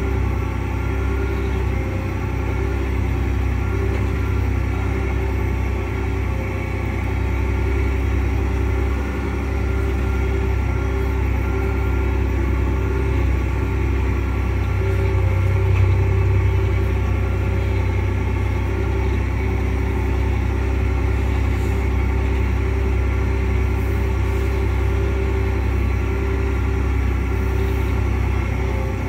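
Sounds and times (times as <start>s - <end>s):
tractor diesel engine drone: 0.0s - 29.0s.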